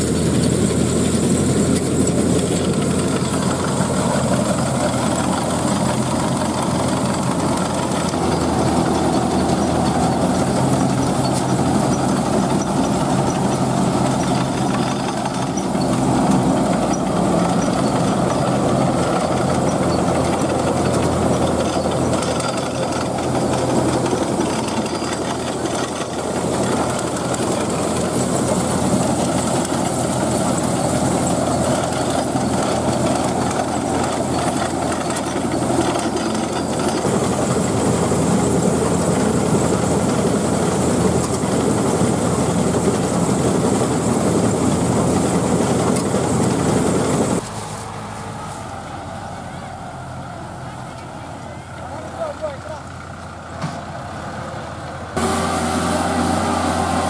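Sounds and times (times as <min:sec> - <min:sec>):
machinery rattling: 0:00.0 - 0:53.9, 0:55.2 - 0:57.0
harvester engine drone: 0:00.0 - 0:57.0.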